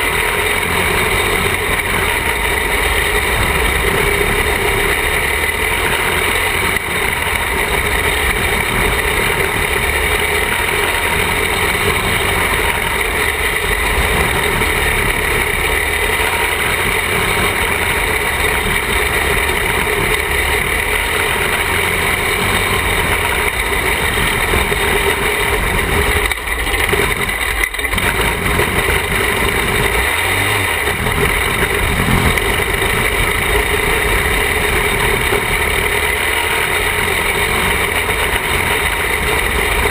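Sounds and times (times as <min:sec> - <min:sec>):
racing car engine running: 0:00.0 - 0:39.9.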